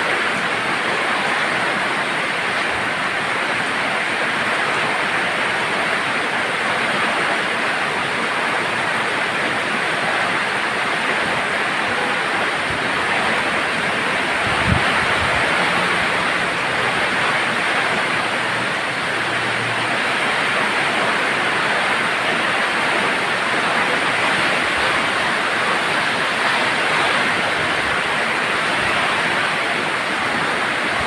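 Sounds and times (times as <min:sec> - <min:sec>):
heavy rain falling: 0:00.0 - 0:31.0
wind: 0:00.0 - 0:31.0.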